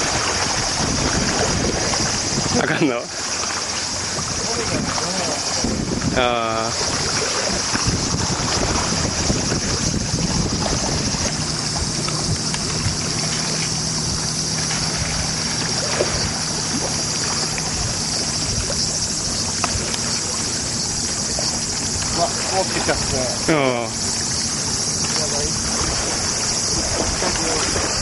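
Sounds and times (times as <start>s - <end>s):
low steady drone: 0.0s - 28.0s
wind buffeting microphone: 0.0s - 28.0s.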